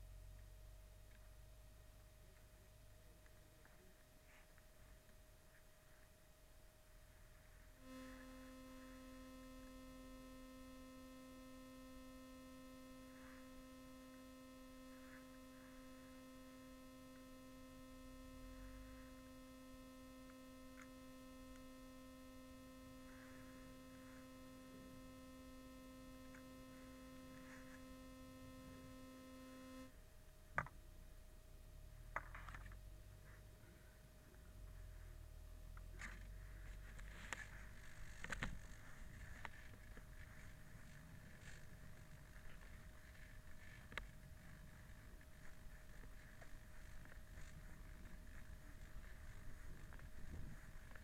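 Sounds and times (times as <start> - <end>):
faint electronic tone: 0.0 - 30.1, 31.5 - 51.0
low background hum: 0.0 - 51.0.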